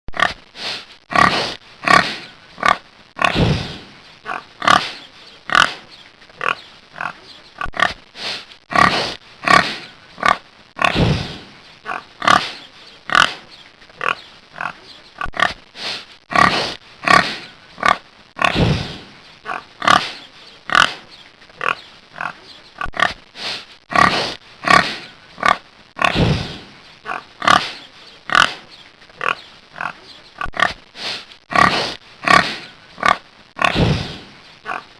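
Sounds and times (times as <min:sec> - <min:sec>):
pig grunting: 0:01.1 - 0:08.0, 0:08.7 - 0:15.6, 0:16.3 - 0:23.2, 0:23.9 - 0:30.8, 0:31.5 - 0:34.9.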